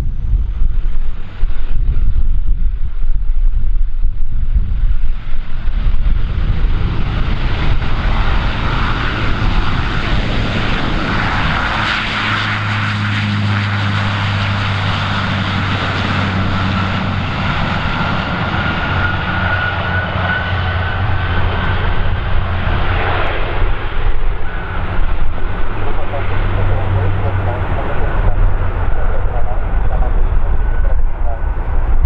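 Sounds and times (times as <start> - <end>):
jet engines at takeoff: 0.0 - 32.0
rising high engine whine: 0.0 - 32.0.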